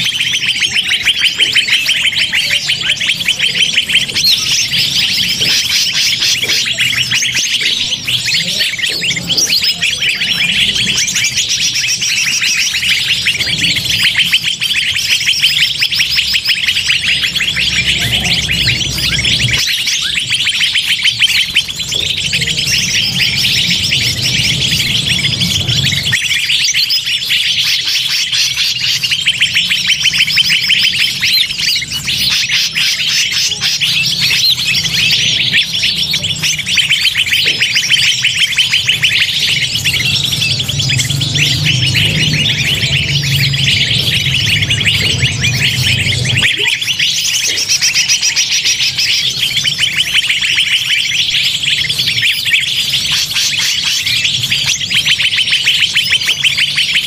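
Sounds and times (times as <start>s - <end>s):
small birds chirping chorus: 0.0s - 57.0s.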